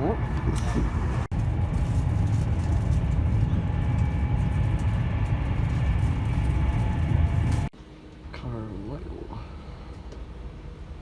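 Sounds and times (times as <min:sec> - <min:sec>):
train rumbling at speed: 0:00.0 - 0:11.0.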